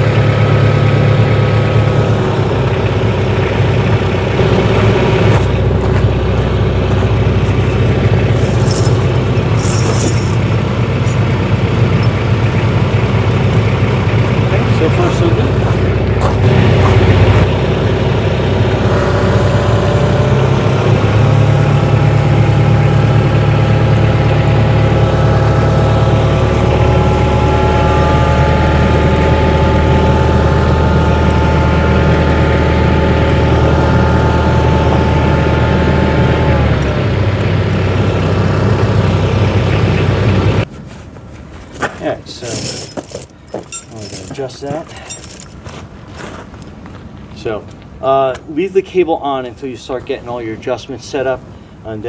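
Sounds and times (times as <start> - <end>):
tractor engine running: 0.0 - 48.4.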